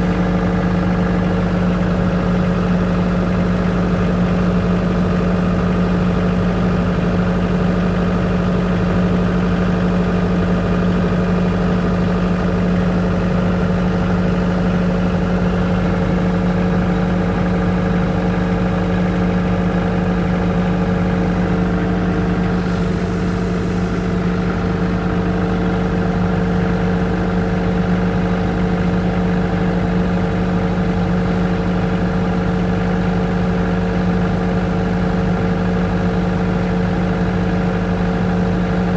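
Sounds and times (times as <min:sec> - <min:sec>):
generator engine droning: 0:00.0 - 0:38.9.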